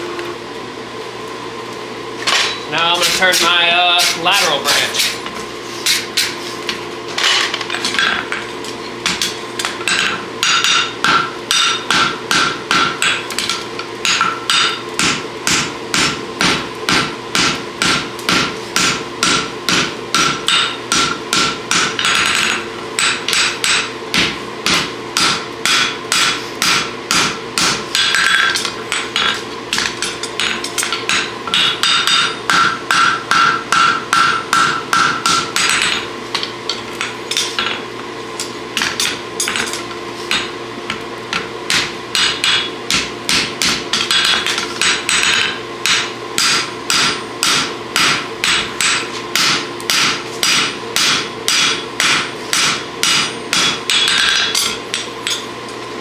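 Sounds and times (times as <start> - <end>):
hammer striking hot steel: 2.2 - 55.5.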